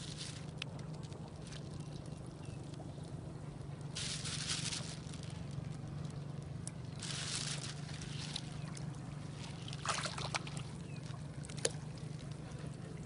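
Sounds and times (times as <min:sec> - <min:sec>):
steady low hum: 0:00.0 - 0:13.0
water splashing around a boat: 0:00.0 - 0:13.0.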